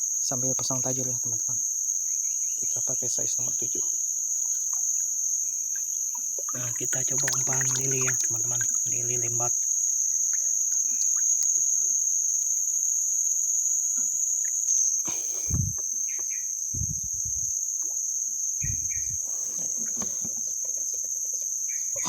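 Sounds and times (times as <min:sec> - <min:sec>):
insects shrilling: 0:00.0 - 0:22.0.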